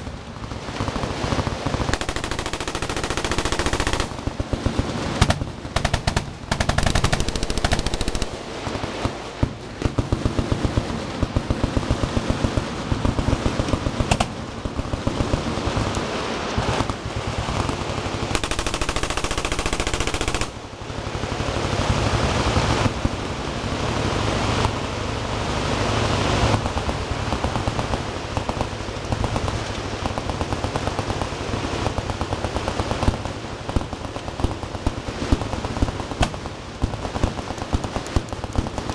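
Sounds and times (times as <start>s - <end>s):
machine guns firing: 0.0s - 23.3s, 26.4s - 38.9s.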